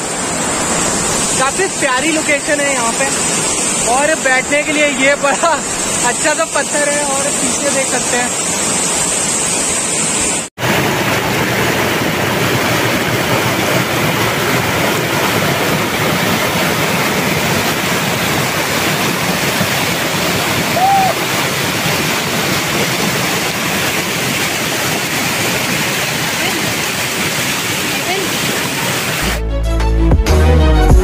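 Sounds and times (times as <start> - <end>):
river water rushing over rocks: 0.0 - 29.4.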